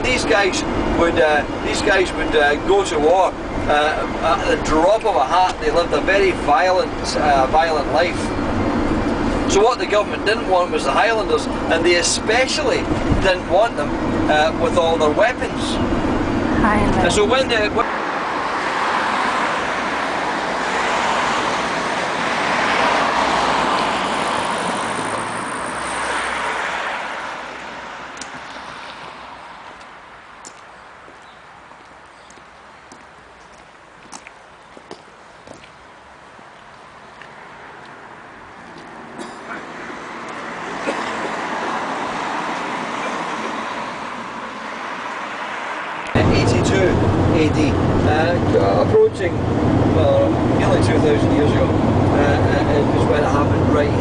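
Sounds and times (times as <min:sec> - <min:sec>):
road vehicle noise: 0:00.0 - 0:54.0.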